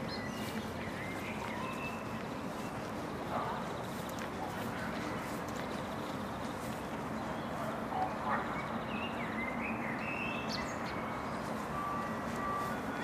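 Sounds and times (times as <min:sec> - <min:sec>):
distant background noise: 0:00.0 - 0:13.0.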